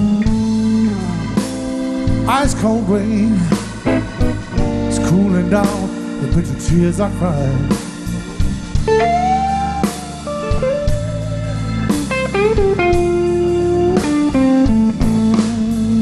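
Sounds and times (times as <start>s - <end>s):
bass: 0.0s - 16.0s
drums: 0.0s - 16.0s
electric lead guitar bending notes: 0.0s - 16.0s.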